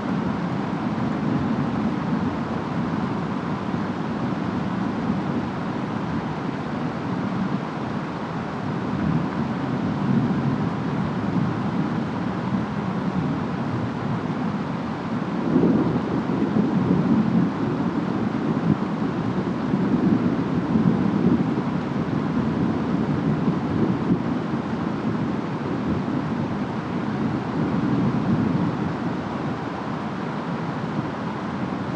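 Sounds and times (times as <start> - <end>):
low storm rumble: 0.0 - 31.9
wind: 0.0 - 31.9.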